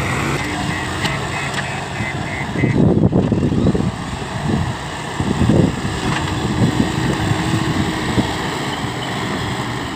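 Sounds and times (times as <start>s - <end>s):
diesel engine rumbling: 0.0s - 9.9s.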